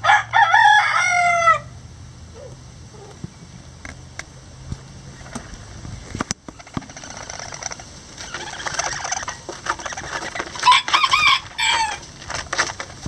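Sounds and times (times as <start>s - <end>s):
chickens warbling calls: 0.0s - 3.4s, 5.1s - 13.0s.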